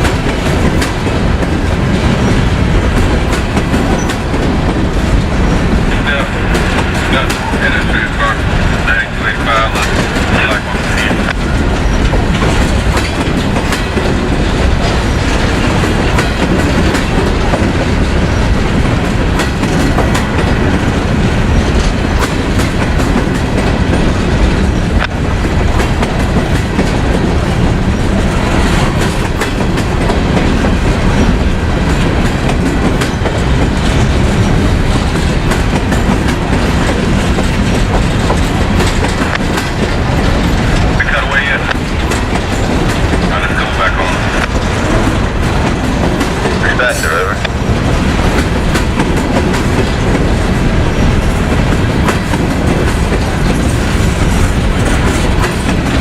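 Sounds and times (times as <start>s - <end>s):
train wheel clicks on rail joints: 0.0s - 5.8s, 9.7s - 43.4s, 47.4s - 56.0s
freight train rumbling: 0.0s - 56.0s.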